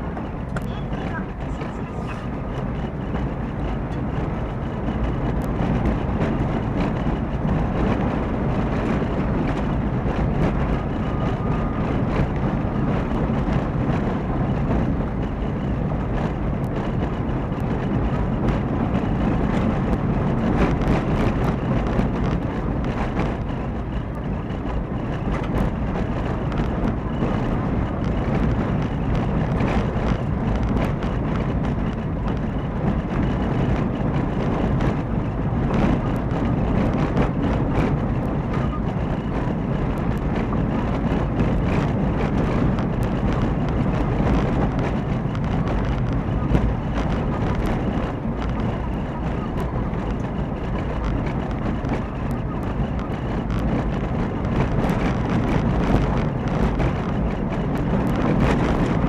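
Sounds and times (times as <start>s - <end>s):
car engine hum: 0.0s - 59.0s
road and tyre noise: 0.0s - 59.0s.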